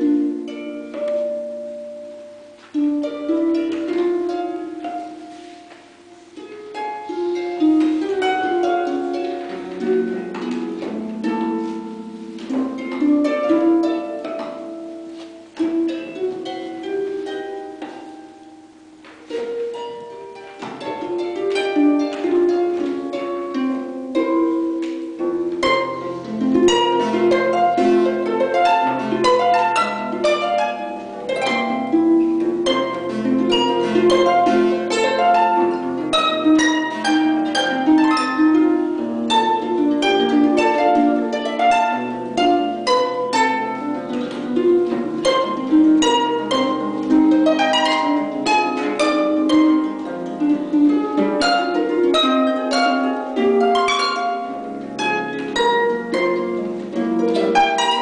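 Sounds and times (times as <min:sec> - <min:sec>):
harp playing arpeggios: 0:00.0 - 0:58.0.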